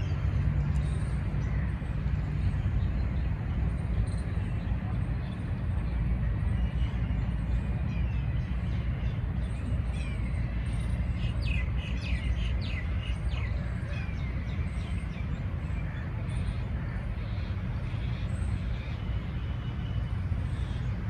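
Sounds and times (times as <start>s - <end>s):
small birds chirping: 0.0s - 21.0s
steady low rumble: 0.0s - 21.0s.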